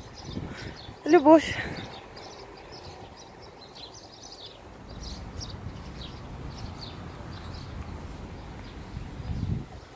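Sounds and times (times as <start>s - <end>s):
steady low rumble: 0.0s - 9.8s
small birds chirping: 0.0s - 9.9s.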